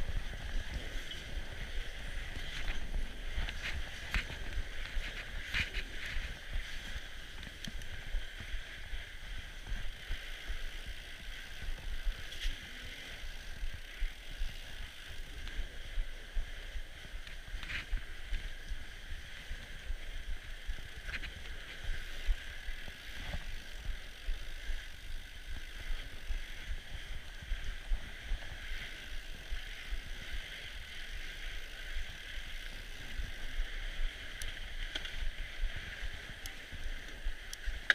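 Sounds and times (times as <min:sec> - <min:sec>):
bike tyres crunching on snow: 0:00.0 - 0:37.9
wind rumble on microphone: 0:00.0 - 0:37.9.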